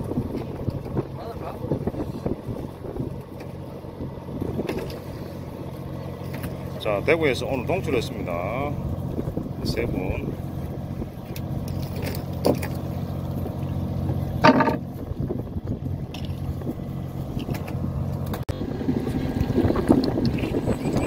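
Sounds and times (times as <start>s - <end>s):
boat engine humming: 0.0s - 21.0s
noisy rumble: 0.0s - 21.0s.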